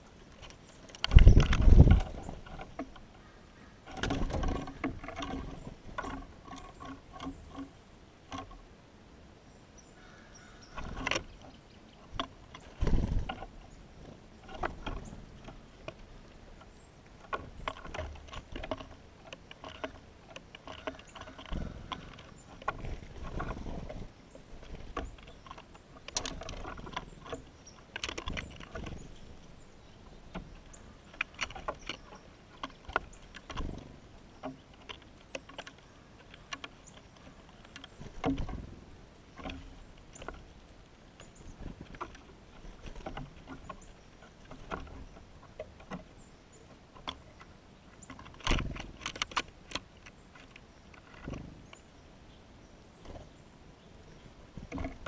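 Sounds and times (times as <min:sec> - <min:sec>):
birds tapping and pecking: 0:00.0 - 0:08.8, 0:09.8 - 0:55.0.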